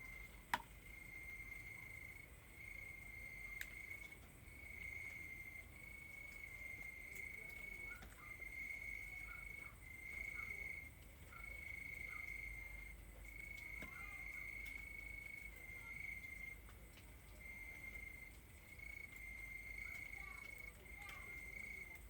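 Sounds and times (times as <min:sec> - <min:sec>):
cricket trilling: 0:00.0 - 0:16.6, 0:17.4 - 0:22.0.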